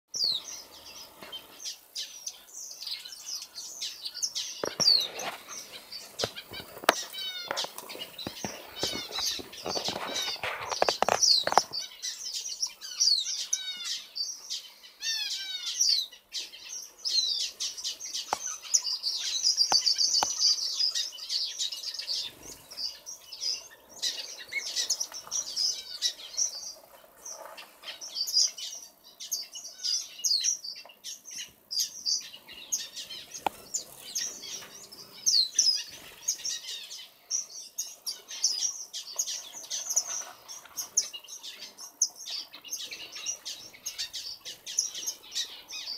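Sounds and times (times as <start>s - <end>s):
small finches chirping and twittering: 0.1s - 45.9s.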